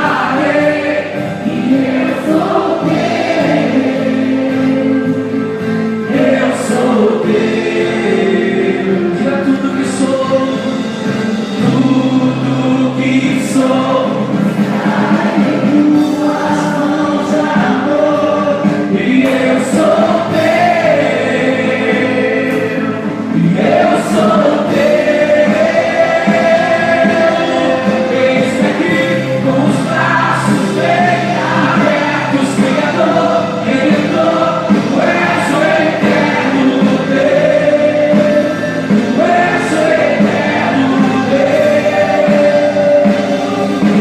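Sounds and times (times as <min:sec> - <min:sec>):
group singing gospel song: 0:00.0 - 0:44.0
sustained instrumental accompaniment: 0:00.0 - 0:44.0.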